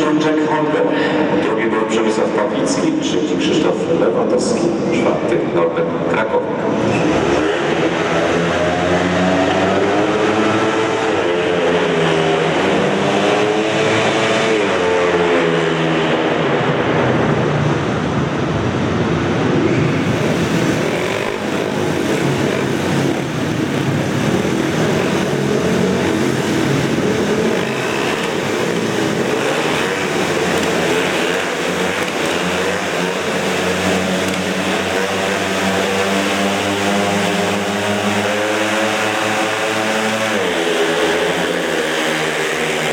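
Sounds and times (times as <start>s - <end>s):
motorcycles racing: 0.0s - 42.9s.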